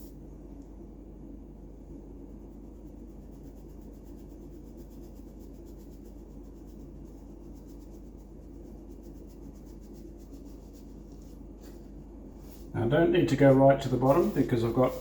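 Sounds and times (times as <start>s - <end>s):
low steady hum: 0.0s - 15.0s
paintbrush scratching on wall: 2.3s - 15.0s.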